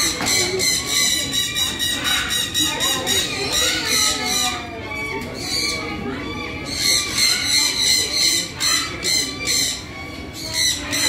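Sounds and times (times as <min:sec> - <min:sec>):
parakeets screeching: 0:00.0 - 0:11.0.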